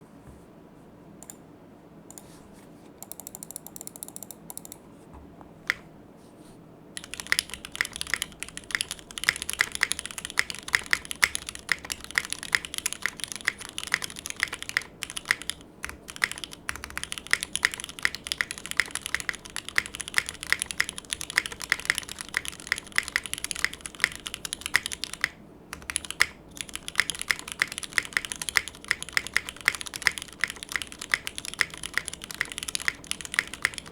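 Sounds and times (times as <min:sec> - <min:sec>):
typing on mechanical keyboard: 0:03.0 - 0:04.8, 0:07.0 - 0:33.9.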